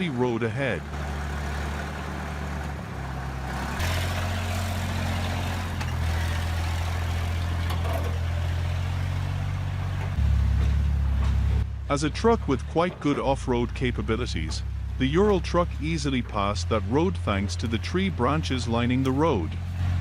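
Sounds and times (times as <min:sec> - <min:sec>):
truck engine drone: 0:00.0 - 0:20.0.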